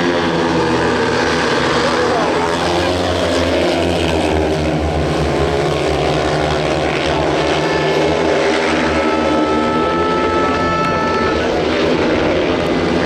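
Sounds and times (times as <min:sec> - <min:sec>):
motorcycle engines racing: 0:00.0 - 0:13.0.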